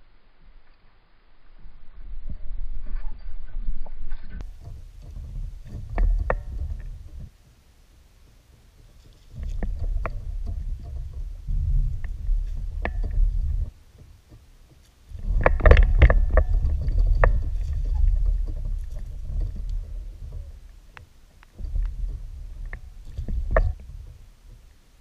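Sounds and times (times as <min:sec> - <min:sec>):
low rumble: 0:00.0 - 0:07.4, 0:08.1 - 0:14.1, 0:15.0 - 0:25.0.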